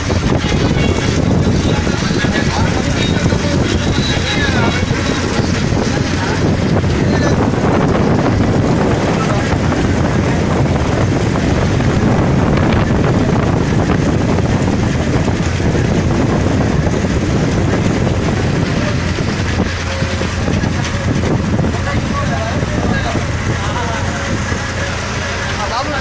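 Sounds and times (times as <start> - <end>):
motorboat engine running: 0.0 - 26.0
wind buffeting microphone: 0.0 - 26.0.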